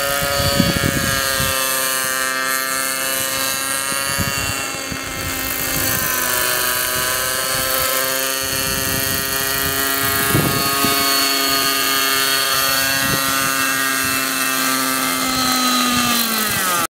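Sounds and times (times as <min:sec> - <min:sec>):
model helicopter engine whine: 0:00.0 - 0:16.9.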